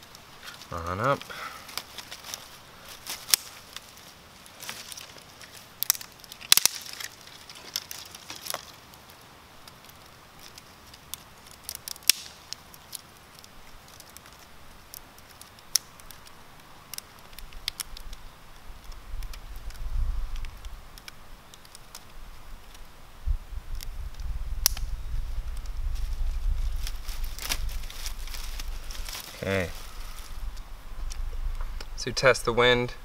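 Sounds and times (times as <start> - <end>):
dry twigs clicking and snapping: 0.0 - 23.0, 23.7 - 32.0.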